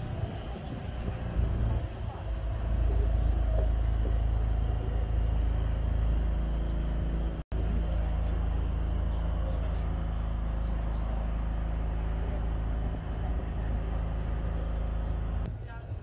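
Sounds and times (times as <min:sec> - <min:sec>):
tram rumbling along track: 0:00.0 - 0:15.9.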